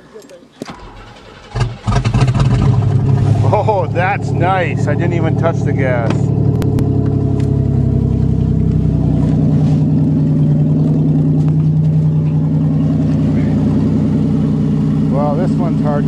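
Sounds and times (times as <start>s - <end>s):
car engine idling: 0.7s - 16.0s.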